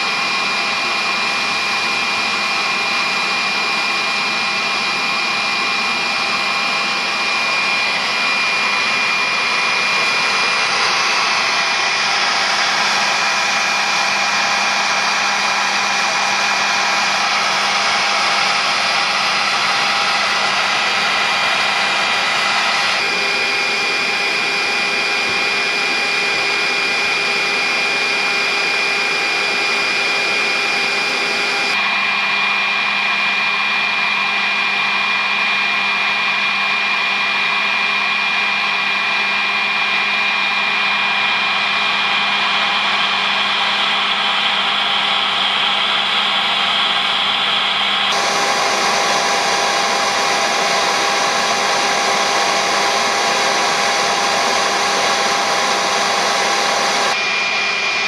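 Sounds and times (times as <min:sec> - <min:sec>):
hair dryer whining: 0:00.0 - 0:58.0.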